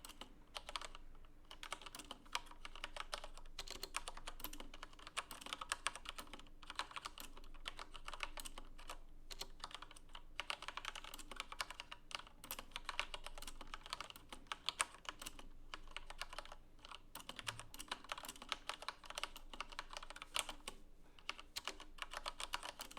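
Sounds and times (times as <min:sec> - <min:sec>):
mechanical keyboard typing: 0:00.0 - 0:22.9.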